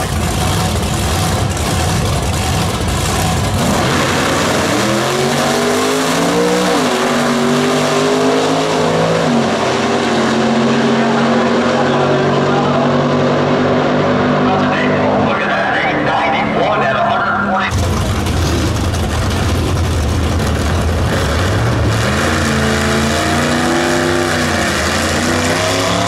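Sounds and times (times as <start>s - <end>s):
drag racing car engines: 0.0s - 26.0s.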